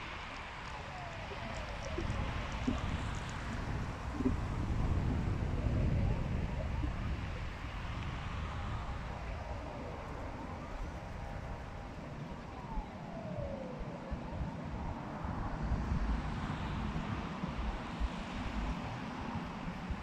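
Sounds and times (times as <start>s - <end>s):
faint emergency siren wailing: 0.0s - 20.0s
traffic rumble: 0.0s - 20.0s
wind: 0.0s - 20.0s.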